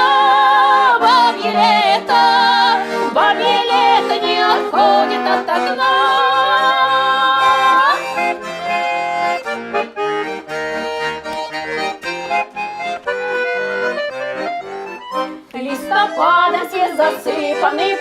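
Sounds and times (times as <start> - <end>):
button accordion playing: 0.0 - 18.0.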